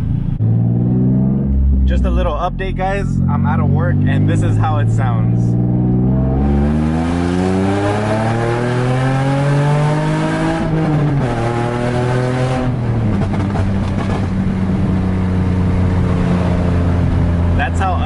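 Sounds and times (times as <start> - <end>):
loud car exhaust revving: 2.8 - 17.8.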